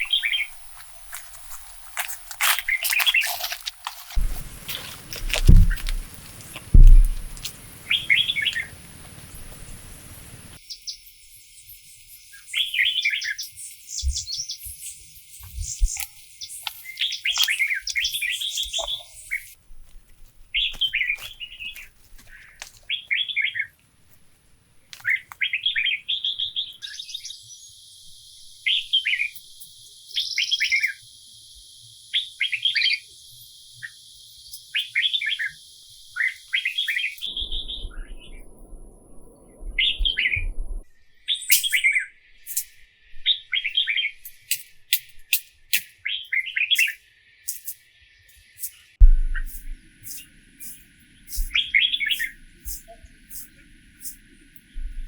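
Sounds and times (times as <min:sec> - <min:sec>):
songbirds chirping: 0:00.0 - 0:19.6, 0:20.4 - 0:44.6, 0:45.9 - 0:55.0.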